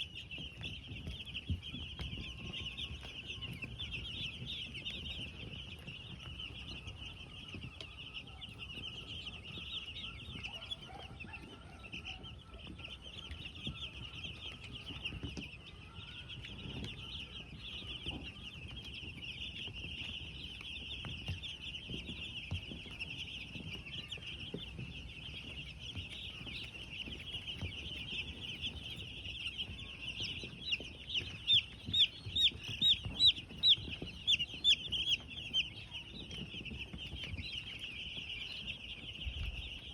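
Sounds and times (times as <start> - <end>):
chicks peeping: 0.0 - 39.9
loud chick peep: 0.0 - 39.9.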